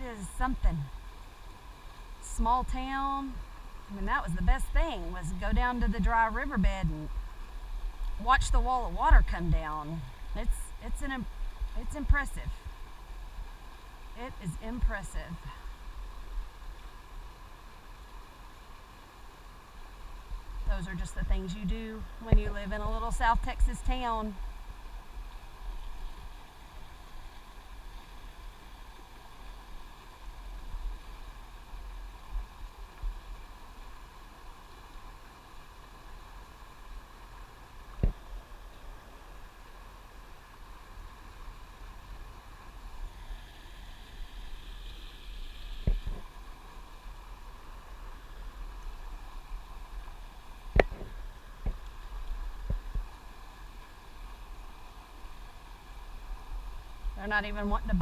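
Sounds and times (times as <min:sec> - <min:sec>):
fast-flowing river water: 0:00.0 - 0:58.0.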